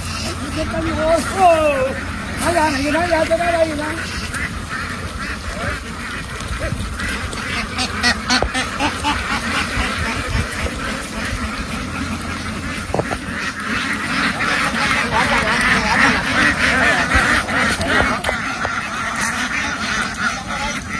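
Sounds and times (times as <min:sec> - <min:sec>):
low rumble: 0:00.0 - 0:20.2
ducks quacking: 0:00.0 - 0:20.9.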